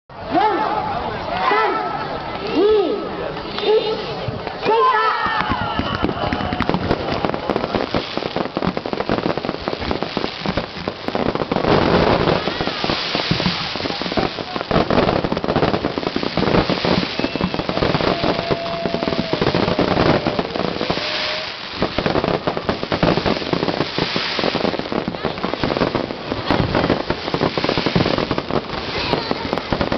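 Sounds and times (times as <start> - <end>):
fireworks crackling: 0.2 - 29.9.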